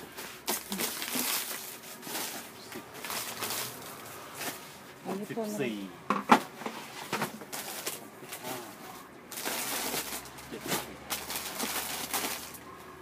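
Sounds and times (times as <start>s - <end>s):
plastic wrappers rustling: 0.0s - 5.6s, 6.8s - 12.7s.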